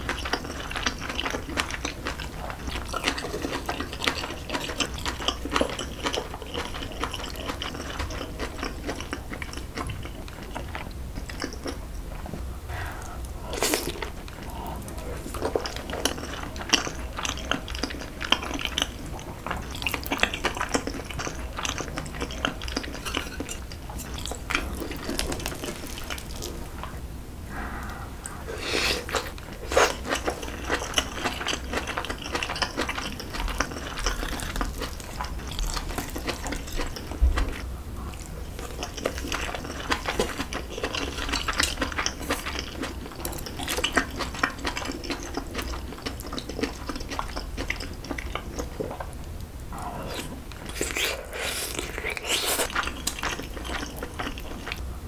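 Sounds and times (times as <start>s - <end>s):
chewing and mouth sounds: 0.0s - 55.0s.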